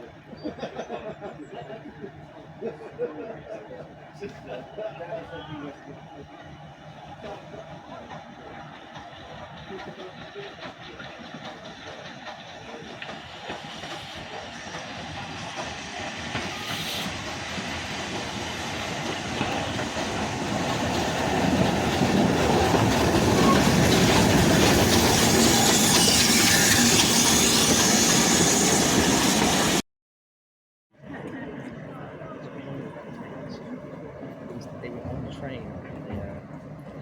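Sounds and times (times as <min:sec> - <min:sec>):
train running on rails: 0:00.0 - 0:29.8, 0:31.0 - 0:37.0.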